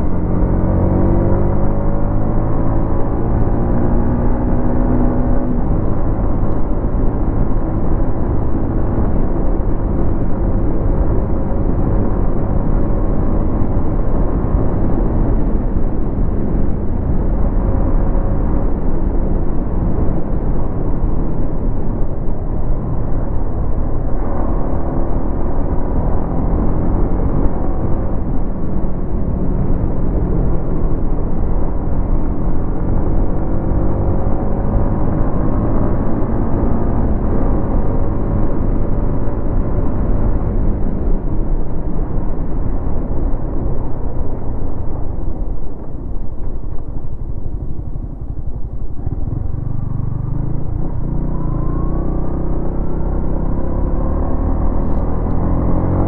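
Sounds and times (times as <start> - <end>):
wind and road noise: 0.0 - 56.0
motorcycle engine running: 4.2 - 56.0.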